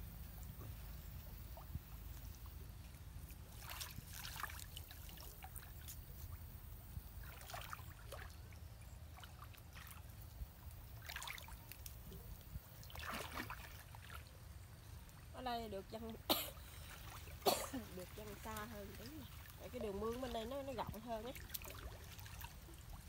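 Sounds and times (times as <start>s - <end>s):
water dripping and splashing: 0.2s - 23.0s.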